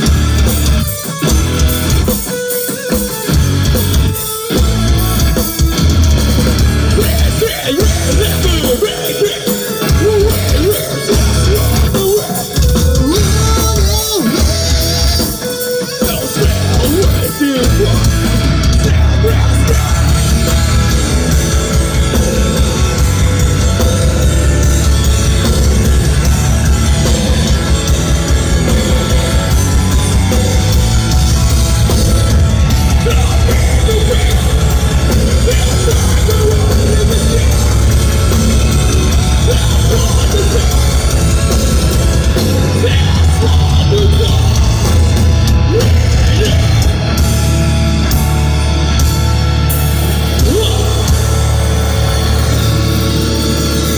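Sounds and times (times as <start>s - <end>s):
distorted electric guitars: 0.0s - 53.9s
drums: 0.0s - 53.9s
heavy bass: 0.0s - 53.9s.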